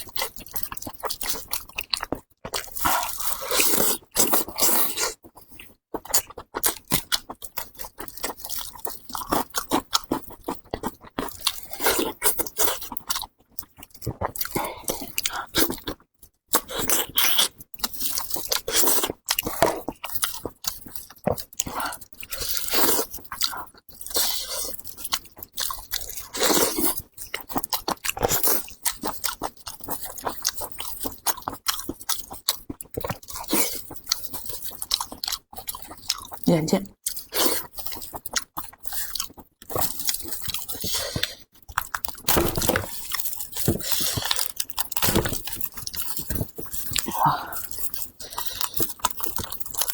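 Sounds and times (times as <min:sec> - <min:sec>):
wet chewing with crunches: 0:00.0 - 0:49.9.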